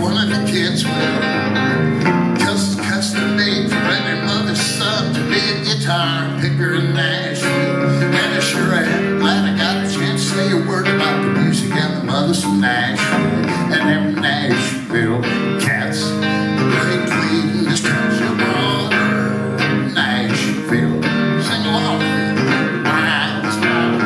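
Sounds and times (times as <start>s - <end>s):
solo guitar picking and strumming: 0.0s - 24.0s.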